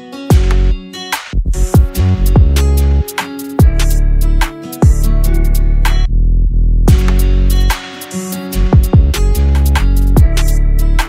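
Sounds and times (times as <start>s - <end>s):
music with deep bass line: 0.3s - 11.0s.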